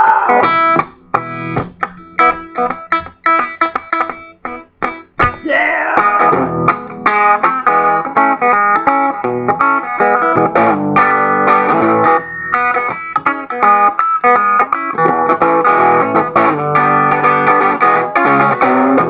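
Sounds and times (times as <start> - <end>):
electric guitar boogie-blues: 0.0 - 19.0.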